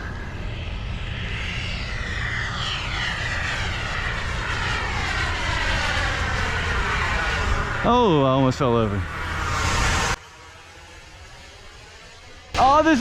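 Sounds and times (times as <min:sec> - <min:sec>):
model jet whine passing: 0:00.0 - 0:13.0.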